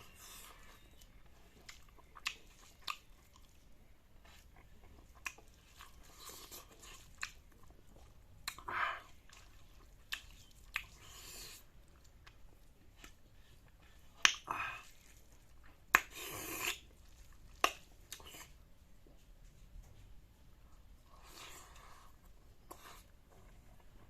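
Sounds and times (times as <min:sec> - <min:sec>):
person chewing food: 0:00.0 - 0:20.1.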